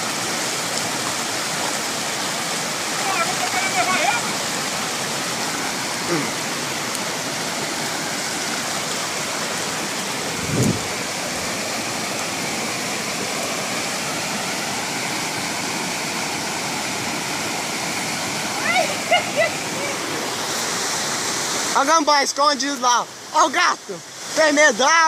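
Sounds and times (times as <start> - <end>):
waterfall rushing over rocks: 0.0 - 25.0.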